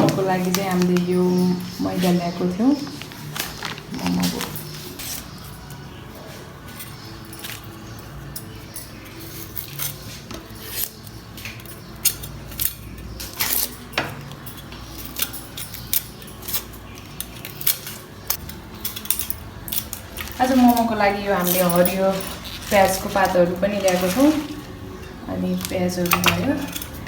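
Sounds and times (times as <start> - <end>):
dishes and utensils clinking: 0.0 - 27.0.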